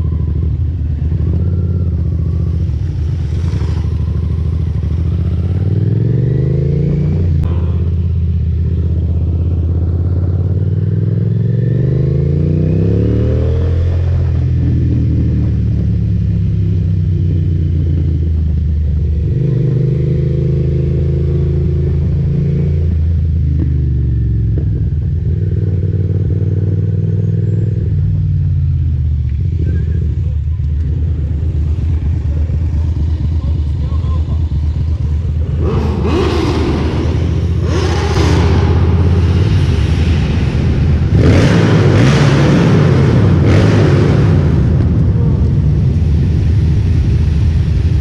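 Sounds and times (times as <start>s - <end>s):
motorcycle engine shifting gears: 0.0s - 47.4s.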